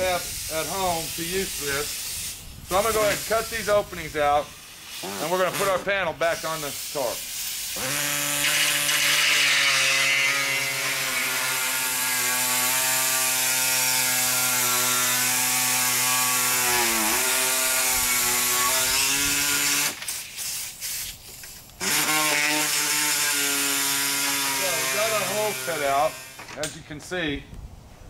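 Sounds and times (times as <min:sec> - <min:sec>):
pneumatic air saw cutting metal: 0:00.0 - 0:26.7.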